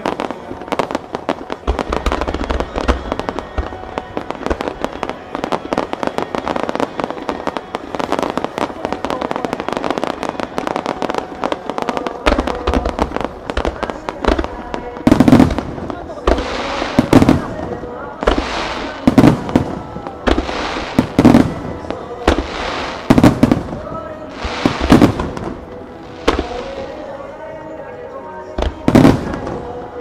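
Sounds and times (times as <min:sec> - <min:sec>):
deep fireworks booms: 0:00.0 - 0:27.0, 0:28.6 - 0:30.0
fireworks bursting: 0:00.0 - 0:27.2, 0:28.4 - 0:30.0.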